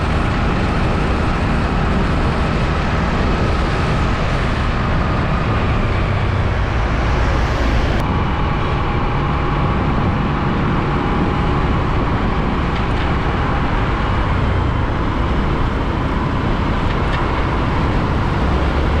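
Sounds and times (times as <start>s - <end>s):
passing traffic road noise: 0.0s - 19.0s
truck engine rumble: 0.0s - 19.0s.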